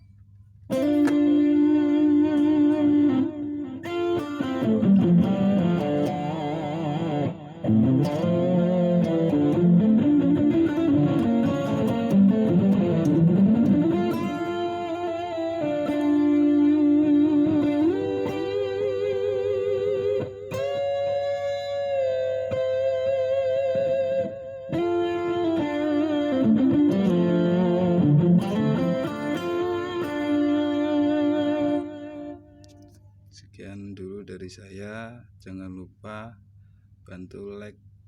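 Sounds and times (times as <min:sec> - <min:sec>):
distorted electric guitar lead: 0:00.7 - 0:33.0.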